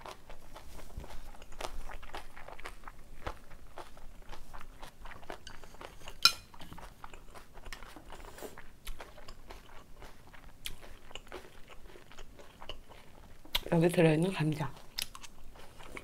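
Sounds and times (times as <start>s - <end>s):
chewing and crunching: 0.0s - 16.0s.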